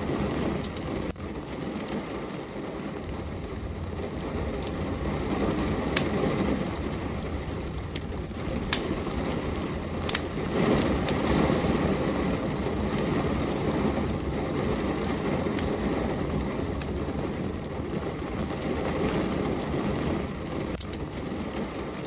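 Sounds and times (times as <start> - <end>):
steady rain falling: 0.0 - 22.0
wood fire crackling and popping: 0.0 - 22.0.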